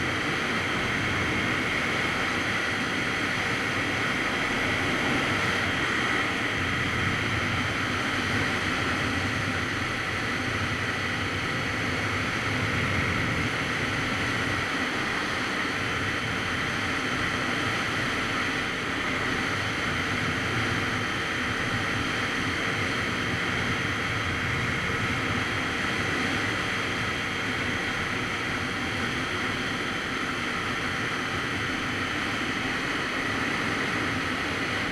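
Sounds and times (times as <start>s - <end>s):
wind rush on microphone: 0.0s - 34.9s.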